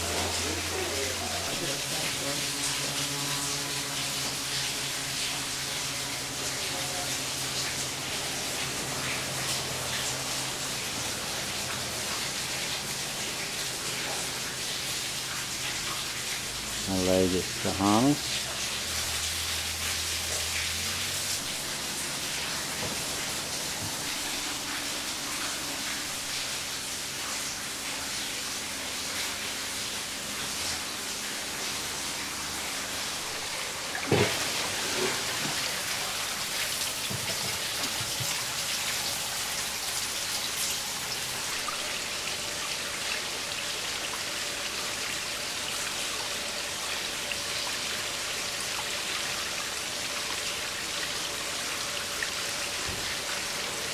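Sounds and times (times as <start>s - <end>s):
hiss of falling water: 0.0s - 53.9s.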